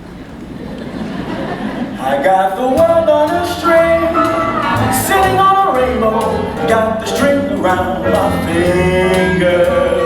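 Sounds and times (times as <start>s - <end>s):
band playing with singer: 1.9s - 10.0s.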